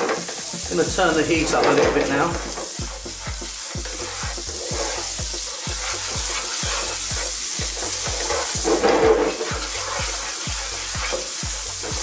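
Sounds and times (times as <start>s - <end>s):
background music with steady beat: 0.0s - 12.0s
onions sizzling in a frying pan: 0.0s - 12.0s
wooden spoon stirring: 0.2s - 12.0s.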